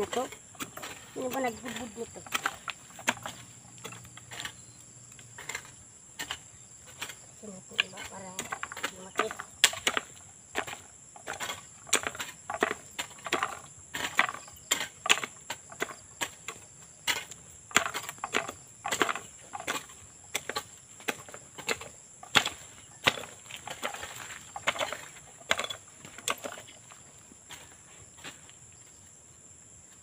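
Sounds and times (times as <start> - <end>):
hoe chopping into soil: 0.0 - 28.5.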